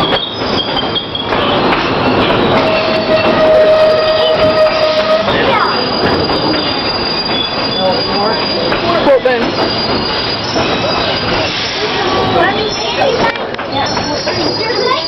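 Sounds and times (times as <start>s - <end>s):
train rumbling on rails: 0.0s - 15.0s
train wheels squealing: 0.0s - 15.0s.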